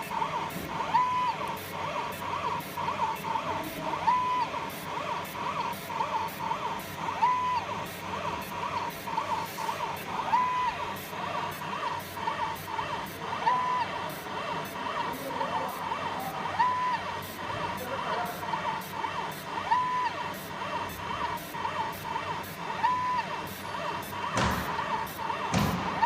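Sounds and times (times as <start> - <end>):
laser scan head buzzing chirps: 0.0 - 26.0.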